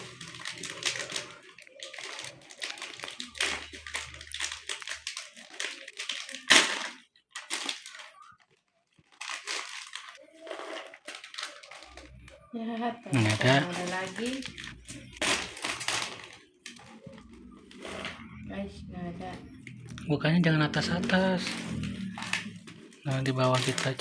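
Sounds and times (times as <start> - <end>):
plastic snack packets crinkling: 0.0 - 18.5, 19.4 - 24.0.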